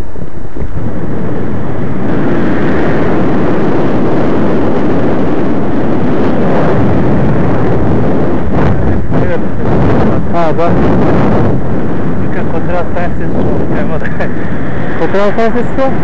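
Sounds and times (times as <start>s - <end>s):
road noise: 0.0s - 16.0s
wind on microphone: 0.0s - 16.0s.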